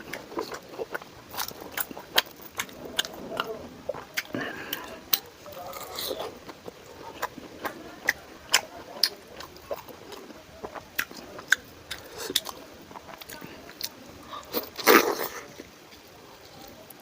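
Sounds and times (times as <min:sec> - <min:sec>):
chewing with wet mouth smacks: 0:00.0 - 0:16.0.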